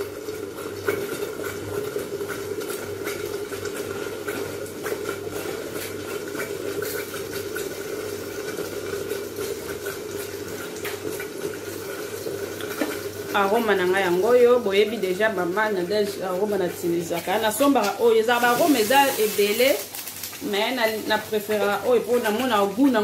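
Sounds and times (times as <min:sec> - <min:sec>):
sauce bubbles popping: 0:00.0 - 0:23.0.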